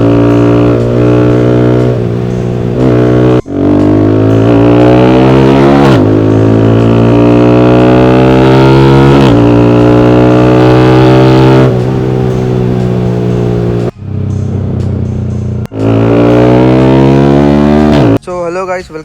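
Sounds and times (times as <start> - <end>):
motorcycle engine accelerating: 0.0 - 18.2.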